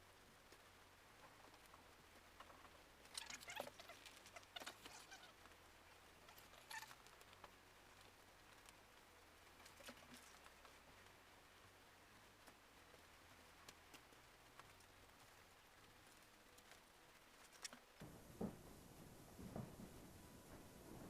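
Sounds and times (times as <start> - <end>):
rustling: 0.0 - 21.0.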